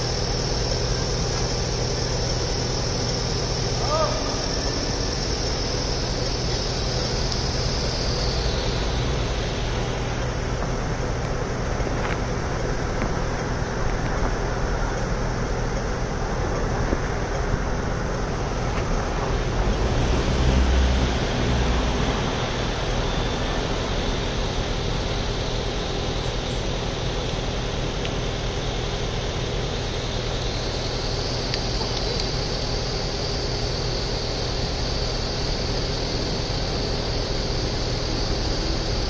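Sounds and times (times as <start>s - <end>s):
city street traffic: 0.0s - 39.0s
low engine rumble: 0.0s - 39.0s.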